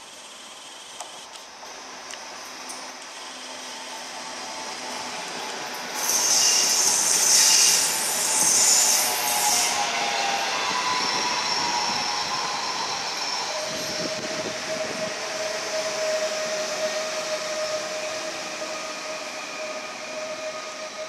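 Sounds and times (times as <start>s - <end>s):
train rolling noise: 0.0s - 21.0s.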